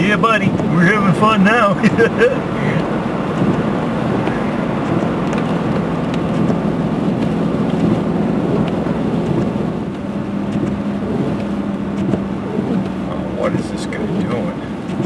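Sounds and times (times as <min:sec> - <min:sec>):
engine hum inside vehicle: 0:00.0 - 0:15.0
rumbling road noise: 0:00.0 - 0:15.0.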